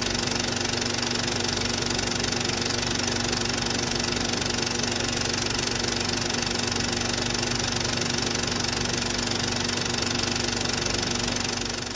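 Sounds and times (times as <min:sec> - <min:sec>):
film projector whirring: 0:00.0 - 0:11.9.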